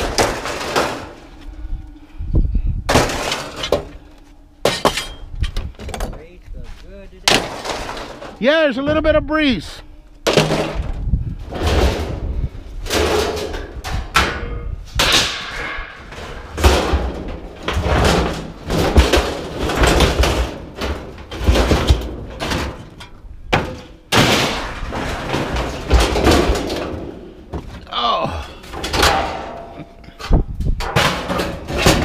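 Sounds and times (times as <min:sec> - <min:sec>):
scrap metal clanking and banging: 0:00.0 - 0:08.7, 0:10.2 - 0:32.0.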